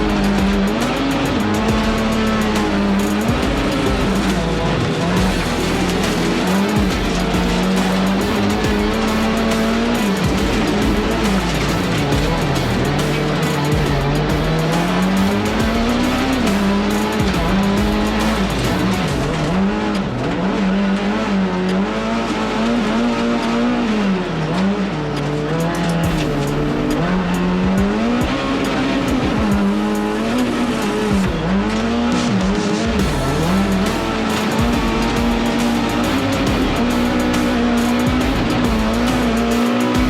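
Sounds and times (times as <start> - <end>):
music: 0.0 - 40.0
race car engine revving: 0.0 - 40.0
tyre and gravel noise: 0.0 - 40.0.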